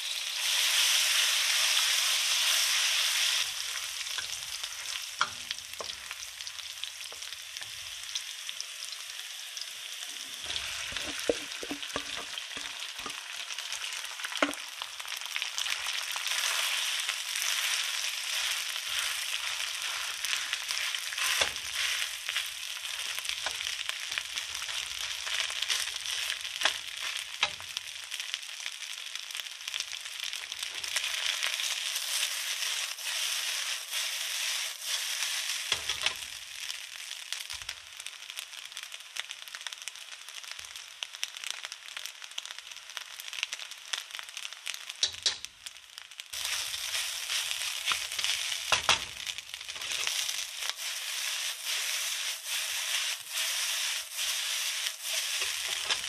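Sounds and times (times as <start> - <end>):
rice sizzling in a wok: 0.0 - 56.0.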